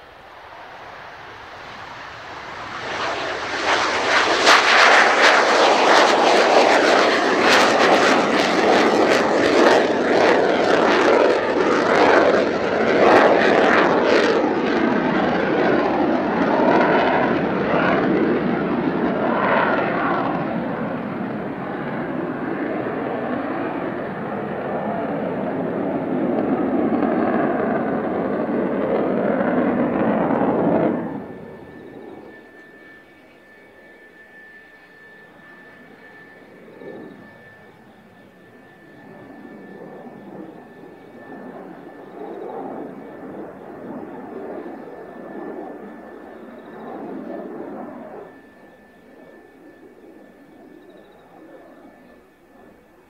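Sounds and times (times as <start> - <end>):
jet engines roaring at takeoff: 0.0 - 53.0.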